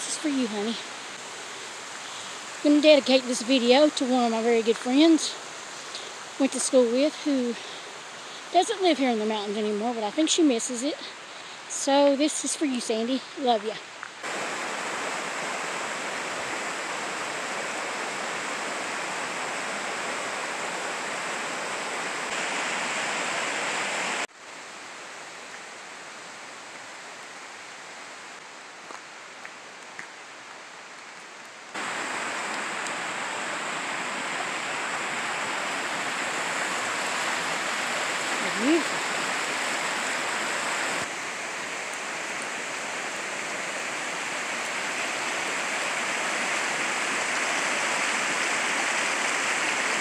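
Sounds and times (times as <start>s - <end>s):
creek rushing over rocks: 0.0s - 24.3s, 31.7s - 50.0s.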